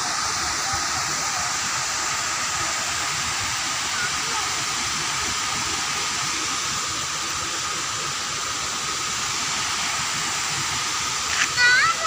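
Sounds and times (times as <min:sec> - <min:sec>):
water rushing through sluice gates: 0:00.0 - 0:12.0.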